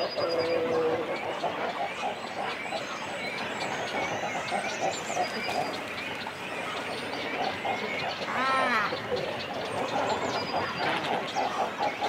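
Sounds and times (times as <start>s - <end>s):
cormorants calling: 0.0s - 12.0s
small birds chirping and whistling: 0.0s - 12.0s.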